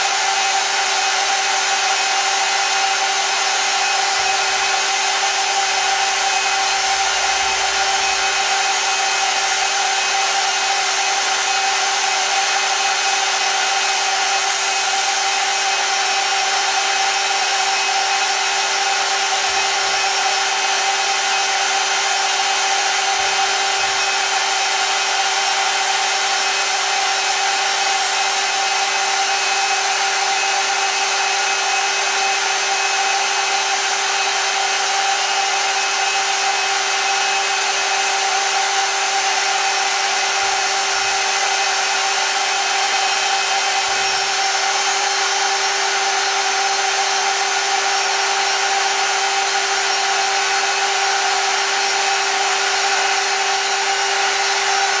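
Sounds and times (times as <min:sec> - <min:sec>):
end mill routing circuit board: 0:00.0 - 0:55.0
mill spindle whine: 0:00.0 - 0:55.0.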